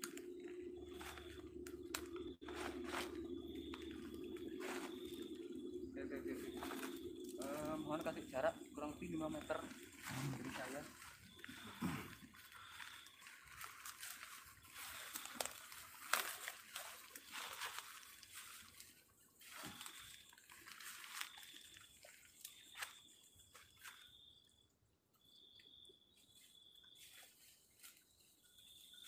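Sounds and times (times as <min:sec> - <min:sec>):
footsteps crunching through dry leaves: 0:00.2 - 0:07.8, 0:09.4 - 0:24.1, 0:26.9 - 0:29.0.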